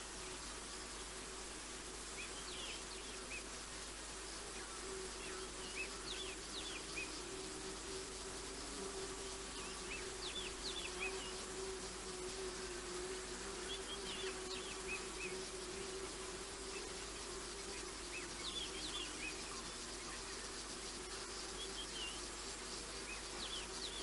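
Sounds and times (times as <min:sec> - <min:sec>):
low insect drone: 0:00.0 - 0:24.0
small birds chirping: 0:01.9 - 0:24.0.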